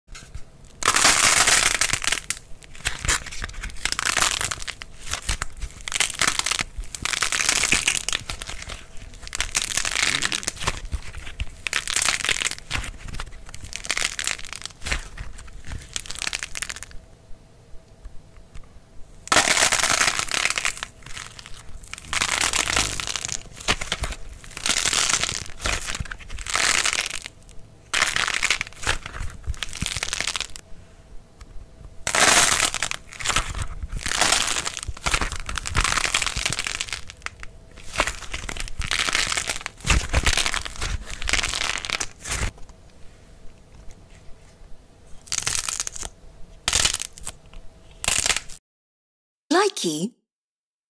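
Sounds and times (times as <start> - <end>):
dried clay crackling and crunching: 0.2 - 17.0, 19.3 - 30.6, 32.0 - 42.8, 43.4 - 48.6.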